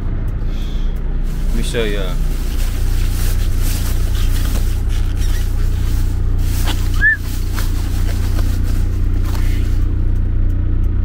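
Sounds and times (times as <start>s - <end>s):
truck engine idling: 0.0s - 11.0s
light clicks and rustles: 1.0s - 10.3s.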